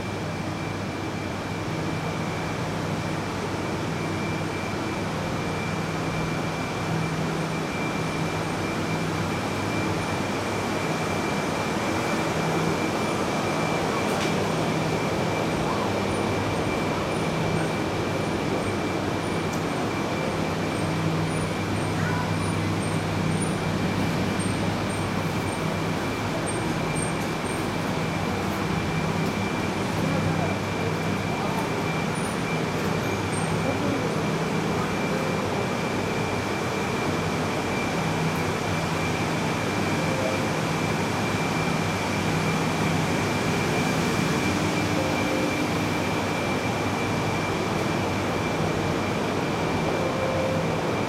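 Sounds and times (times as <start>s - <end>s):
station platform noise: 0.0s - 51.0s
train equipment high whine: 0.0s - 51.0s.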